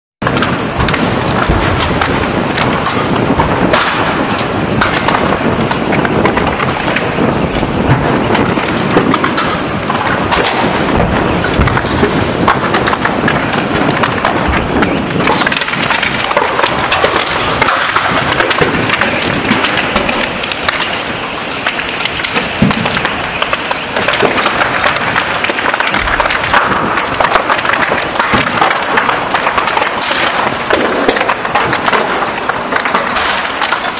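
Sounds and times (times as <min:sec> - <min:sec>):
fire crackling and popping: 0:00.2 - 0:33.9
steady rushing noise: 0:00.2 - 0:33.9.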